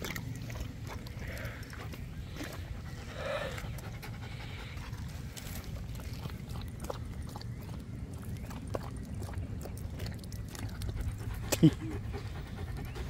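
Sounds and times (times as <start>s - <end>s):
dog lapping water: 0.0s - 13.0s.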